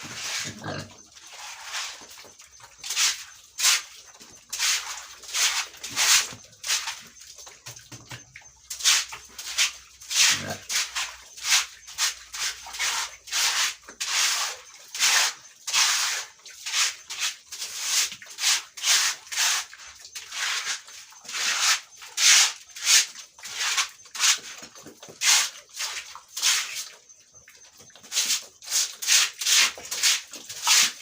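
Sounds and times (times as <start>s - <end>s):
broom sweeping floor: 0.0s - 0.6s, 1.3s - 2.2s, 2.8s - 3.9s, 4.5s - 7.1s, 8.7s - 24.6s, 25.2s - 27.0s, 28.0s - 31.0s.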